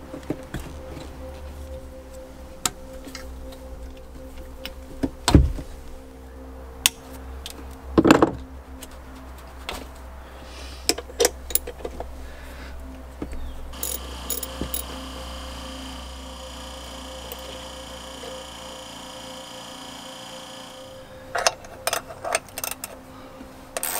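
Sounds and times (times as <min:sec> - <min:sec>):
steady low hum: 0:00.0 - 0:23.8.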